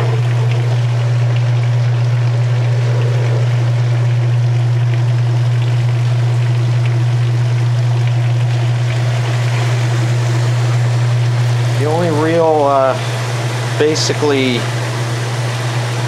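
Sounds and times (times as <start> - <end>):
washing machine motor hum: 0.0 - 16.0
water pumped through drain: 0.0 - 16.0.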